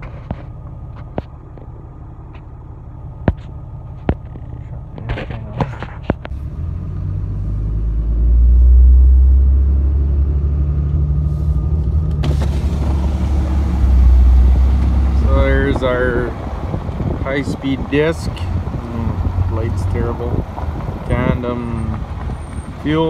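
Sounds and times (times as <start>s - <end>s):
truck rumbling on gravel: 0.0s - 23.0s.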